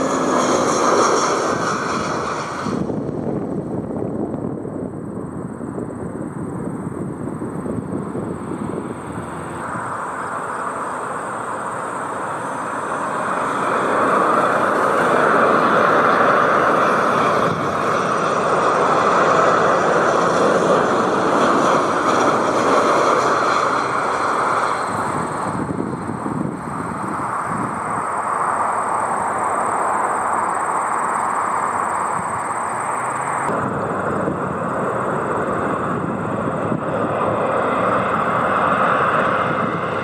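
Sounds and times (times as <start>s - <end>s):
jet airliner passing: 0.0s - 40.0s.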